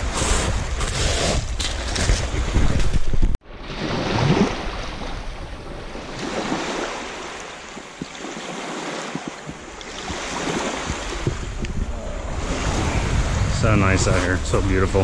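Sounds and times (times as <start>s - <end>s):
lake waves washing on shore: 0.0s - 15.0s.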